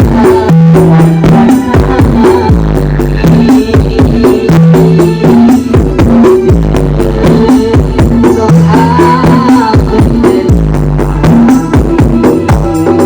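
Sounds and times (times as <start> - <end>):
loud dance music with booming bass: 0.0 - 13.0.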